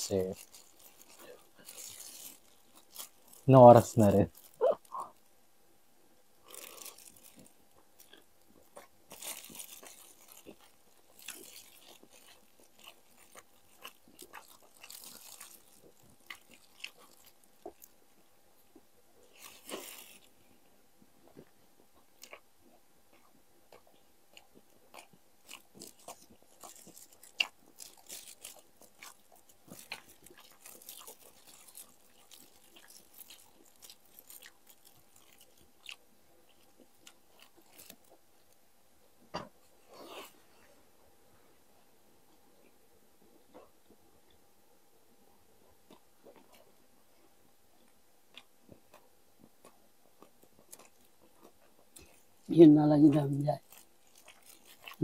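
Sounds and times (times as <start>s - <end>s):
people crunching and chewing: 0.0s - 5.3s, 6.4s - 40.9s, 42.3s - 44.4s, 45.1s - 55.0s.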